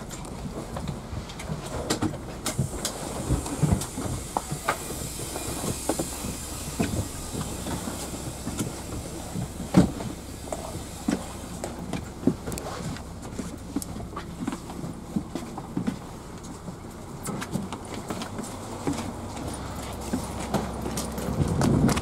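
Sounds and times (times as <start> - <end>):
vehicle ride rumble and hiss: 0.0 - 22.0.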